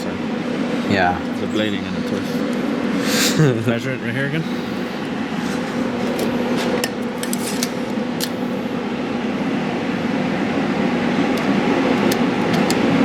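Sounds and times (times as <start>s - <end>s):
fan hum and rushing air: 0.0s - 13.0s.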